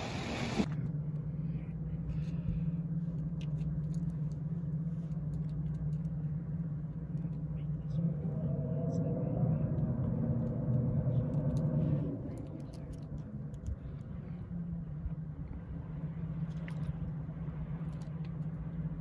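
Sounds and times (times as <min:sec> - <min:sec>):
ship engine rumble and hum: 0:00.0 - 0:19.0.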